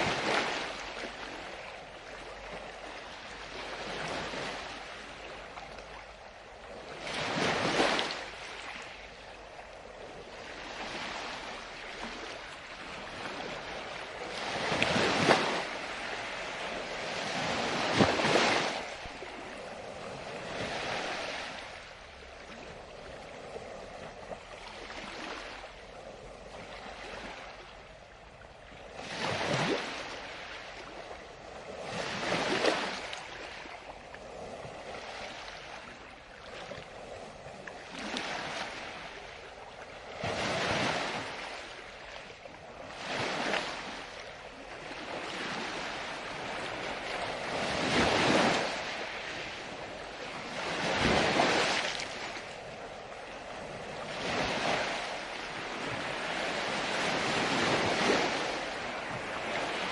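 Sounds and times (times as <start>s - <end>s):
ocean waves breaking: 0.0s - 28.0s, 28.7s - 59.9s.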